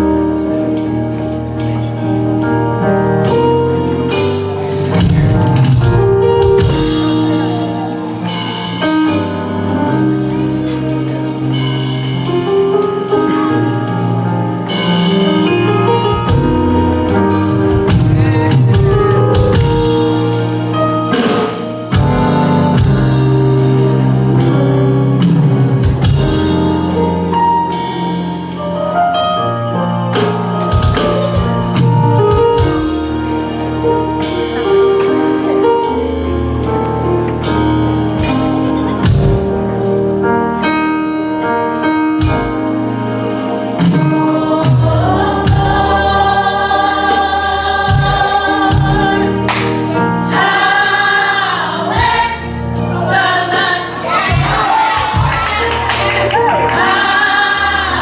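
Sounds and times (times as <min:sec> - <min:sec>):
choir singing gospel: 0:00.0 - 0:40.4, 0:41.8 - 0:58.0
band with bass and drums: 0:00.0 - 0:58.0.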